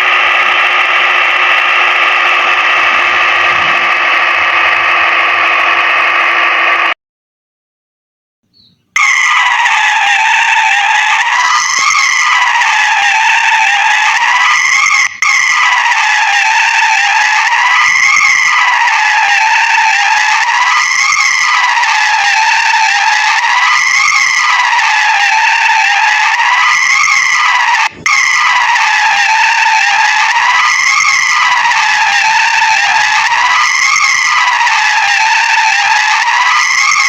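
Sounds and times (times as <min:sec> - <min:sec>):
high squealing tone: 0:00.0 - 0:07.0, 0:09.0 - 0:37.0
steady buzzing: 0:00.0 - 0:07.0, 0:09.0 - 0:37.0.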